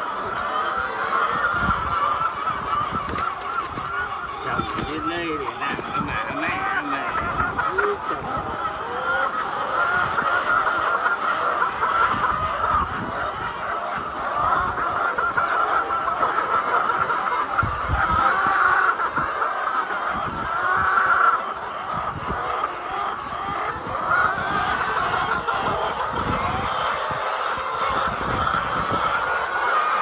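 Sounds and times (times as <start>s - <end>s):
hens clucking and cackling: 0.0s - 30.0s.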